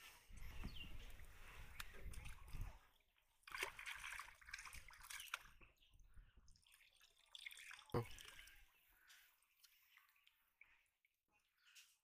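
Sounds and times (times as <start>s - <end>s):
water sloshing and splashing: 0.4s - 10.9s.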